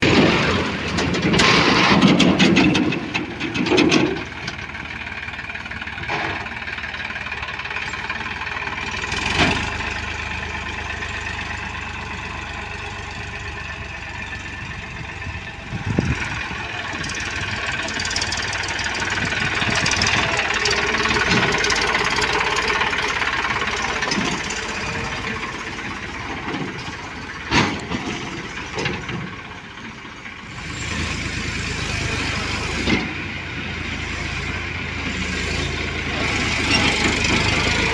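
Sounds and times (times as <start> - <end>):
diesel engines running: 0.0 - 37.9.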